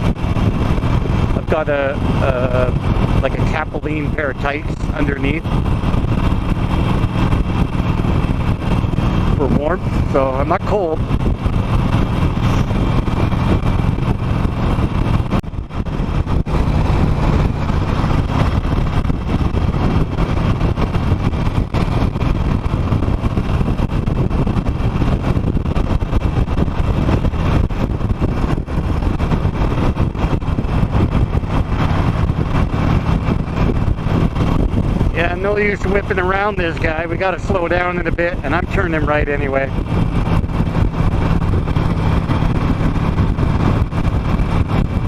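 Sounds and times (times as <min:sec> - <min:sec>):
motorcycle engine cruising: 0:00.0 - 0:45.0
wind rushing over microphone: 0:00.0 - 0:45.0.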